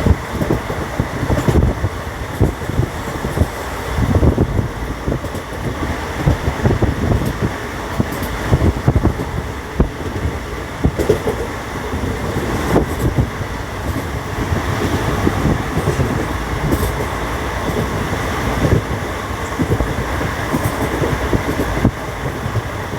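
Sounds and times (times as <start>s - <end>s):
moving vehicle rumble and rattle: 0.0s - 22.9s.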